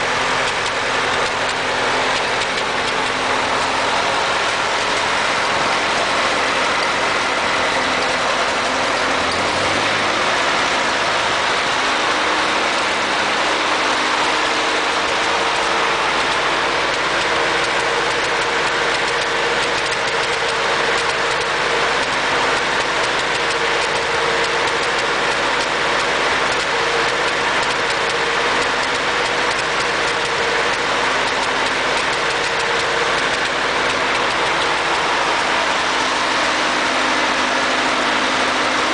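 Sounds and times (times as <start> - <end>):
tractor engine misfiring: 0.0 - 38.9.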